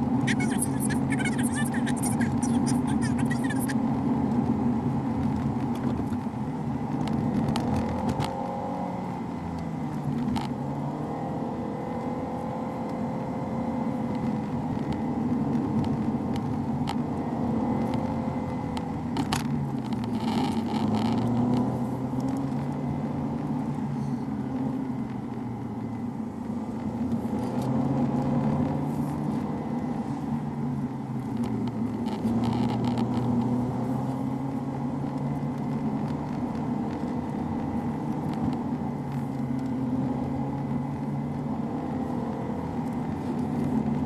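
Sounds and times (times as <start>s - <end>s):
car engine revving: 0.0s - 44.0s
road and tyre noise: 0.0s - 44.0s.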